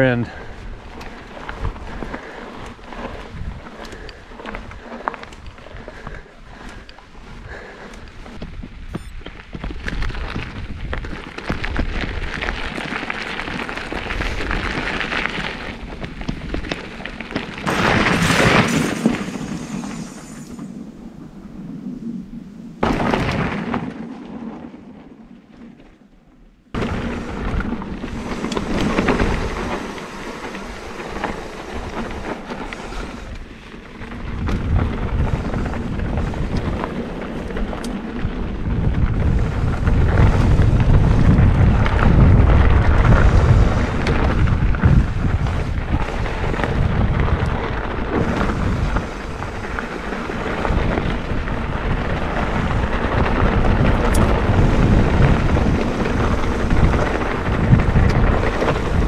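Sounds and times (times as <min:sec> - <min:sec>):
wind buffeting microphone: 0:00.0 - 0:23.2, 0:26.7 - 0:59.0
bike tyres rolling on dirt: 0:00.0 - 0:59.0.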